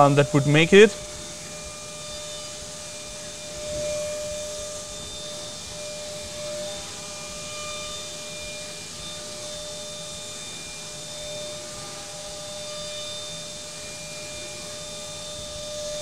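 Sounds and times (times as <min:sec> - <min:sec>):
milling spindle whine: 0:00.0 - 0:16.0.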